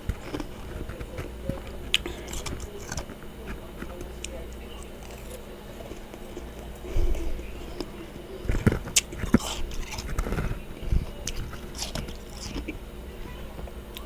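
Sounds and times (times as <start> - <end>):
frost crunching in mouth: 0.0 - 14.0
steady low hum: 0.0 - 14.0.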